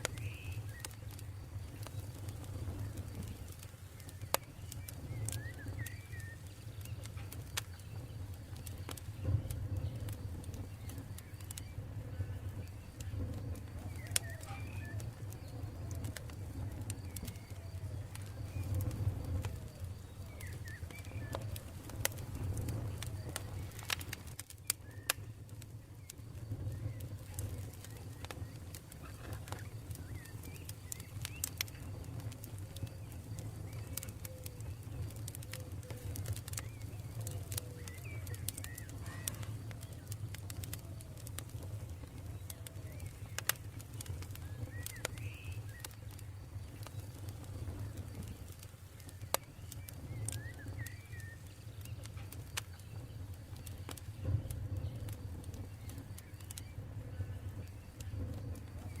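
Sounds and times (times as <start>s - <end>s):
bird calls: 0.0s - 58.2s
campfire crackling and popping: 0.0s - 59.0s.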